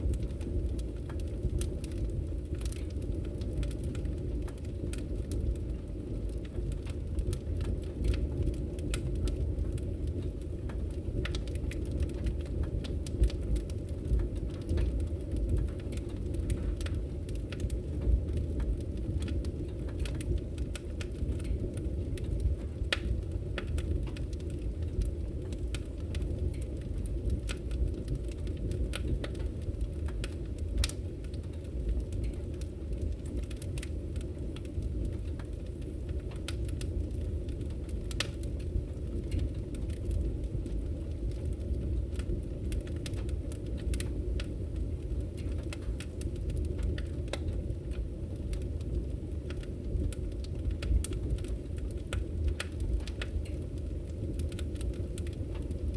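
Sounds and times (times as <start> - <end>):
wood fire crackling in fireplace: 0.0 - 55.9.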